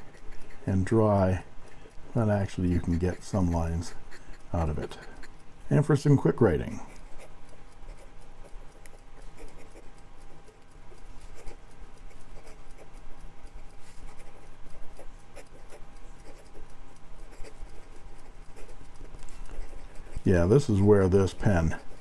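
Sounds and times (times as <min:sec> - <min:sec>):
pen nib scratching paper: 0:00.0 - 0:22.0.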